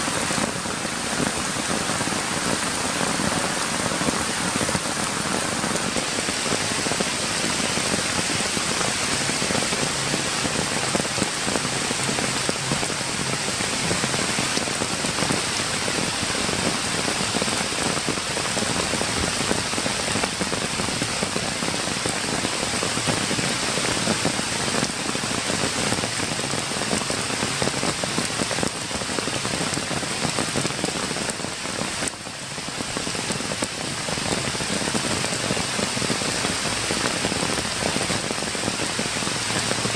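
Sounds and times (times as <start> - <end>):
rain falling on wet grass: 0.0 - 39.9.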